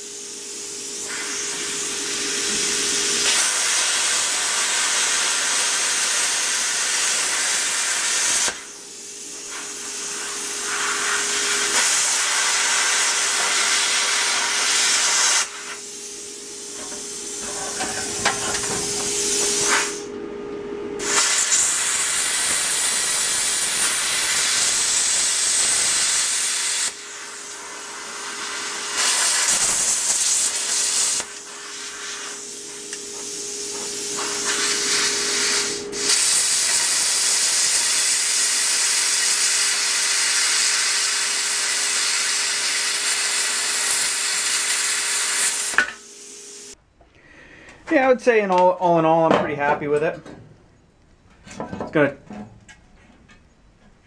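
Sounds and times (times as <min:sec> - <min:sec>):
plasma cutter hissing: 0:00.0 - 0:20.1, 0:21.0 - 0:46.8.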